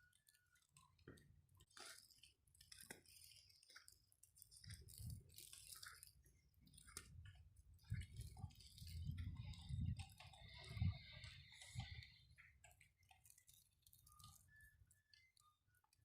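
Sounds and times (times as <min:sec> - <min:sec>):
faint clicks and crackles: 0:00.0 - 0:16.0.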